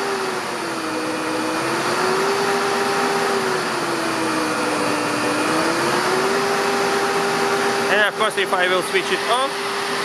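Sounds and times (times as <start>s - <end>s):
motor whirring hum with whine: 0.0s - 10.0s.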